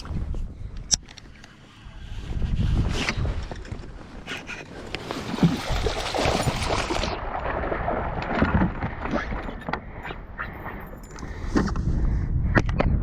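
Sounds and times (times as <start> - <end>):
wind noise on microphone: 0.0 - 13.0
water sloshing around kayak: 1.2 - 11.8.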